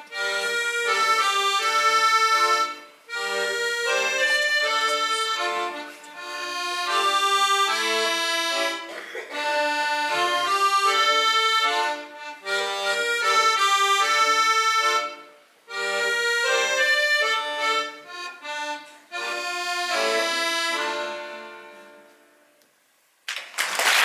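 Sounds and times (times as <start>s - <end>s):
accordion melody: 0.0s - 22.6s.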